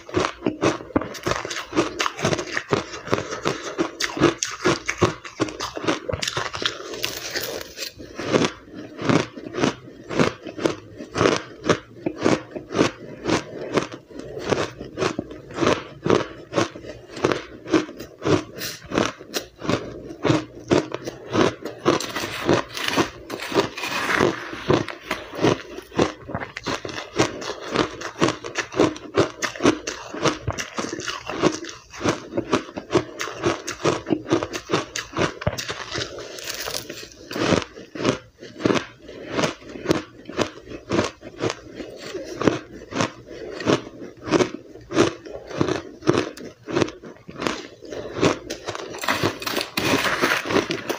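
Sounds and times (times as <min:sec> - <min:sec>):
chewing crushed ice: 0:00.0 - 0:50.9.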